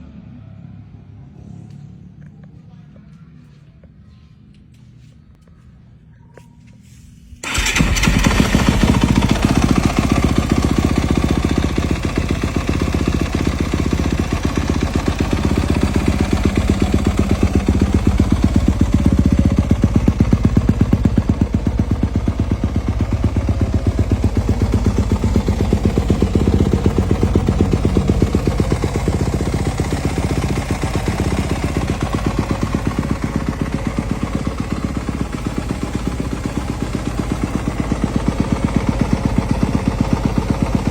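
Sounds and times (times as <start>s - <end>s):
motorcycle engine idling: 7.4s - 40.9s.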